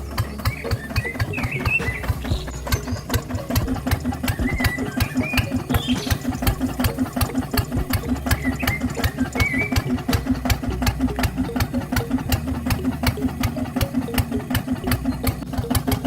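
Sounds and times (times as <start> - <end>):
tractor engine knocking: 0.0 - 16.0.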